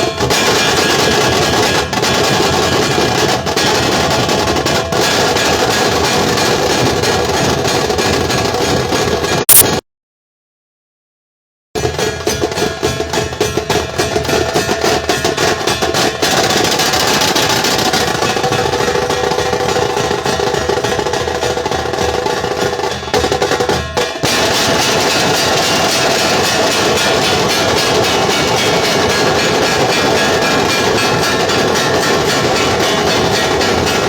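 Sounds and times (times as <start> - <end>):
barrel drums beating: 0.0 - 9.7, 11.8 - 34.0
sharp snare drums: 0.0 - 9.8, 11.8 - 34.0.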